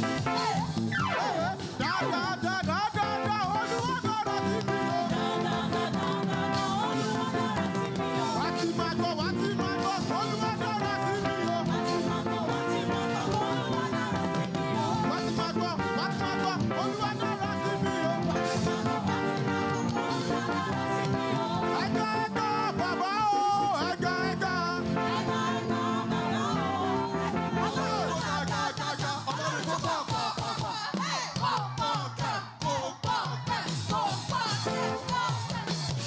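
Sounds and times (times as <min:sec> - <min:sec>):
live band playing: 0:00.0 - 0:30.7, 0:33.5 - 0:36.0
people singing: 0:00.0 - 0:36.0.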